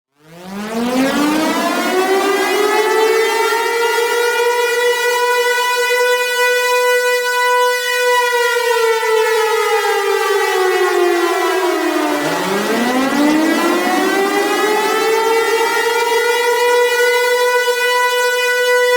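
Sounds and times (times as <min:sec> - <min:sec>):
warning siren wailing: 0:00.2 - 0:18.9.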